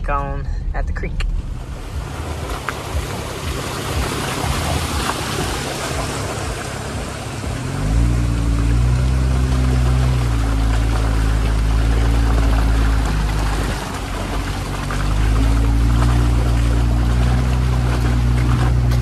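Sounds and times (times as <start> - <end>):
deep low drone: 0.0 - 19.0
tyres splashing over wet rocks: 1.6 - 19.0.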